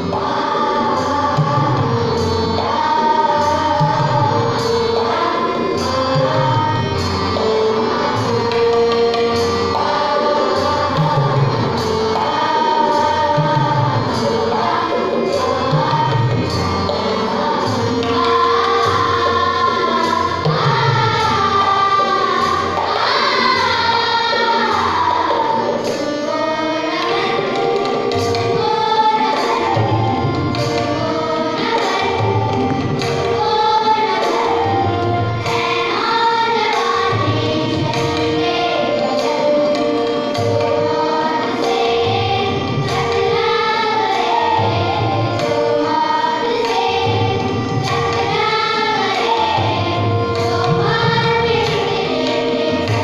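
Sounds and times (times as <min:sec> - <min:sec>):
children's choir singing: 0:00.0 - 0:53.0
steady percussion beat: 0:00.0 - 0:53.0.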